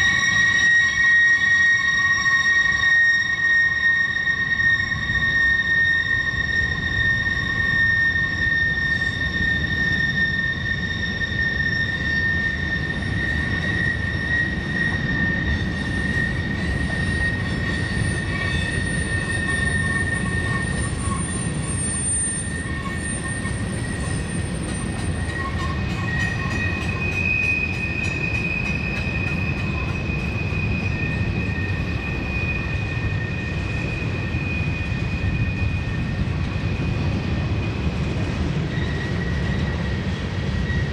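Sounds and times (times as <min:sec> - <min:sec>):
high wheel squeal: 0:00.0 - 0:40.9
train wheels rumbling on rails: 0:00.0 - 0:40.9.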